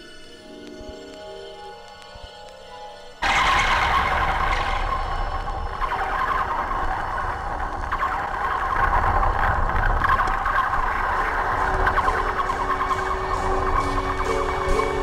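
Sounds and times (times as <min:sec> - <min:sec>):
hazy electronic music: 0:00.0 - 0:15.0.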